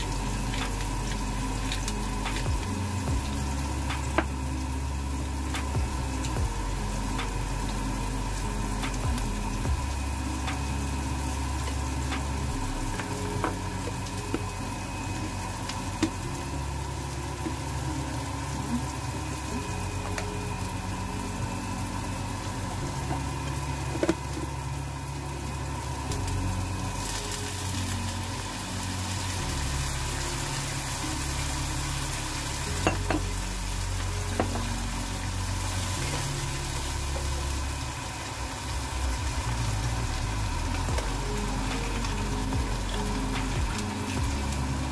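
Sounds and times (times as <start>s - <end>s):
onion sizzling in hot oil: 0.0s - 44.9s
steady low rumble: 0.0s - 44.9s.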